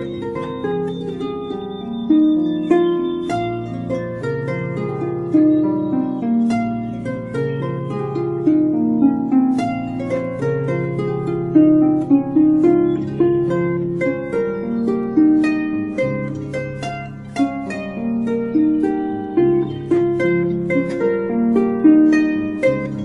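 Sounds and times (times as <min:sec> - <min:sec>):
calm plucked-string music: 0:00.0 - 0:23.0.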